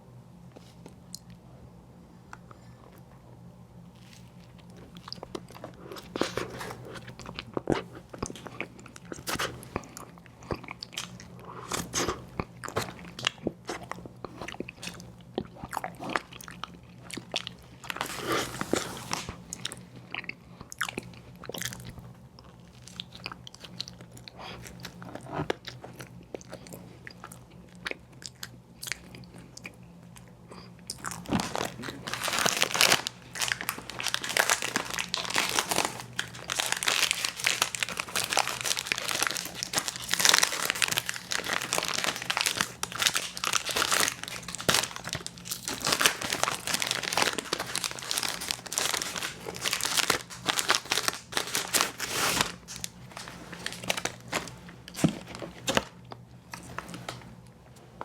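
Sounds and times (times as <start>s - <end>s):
crunchy chewing: 3.9s - 57.4s.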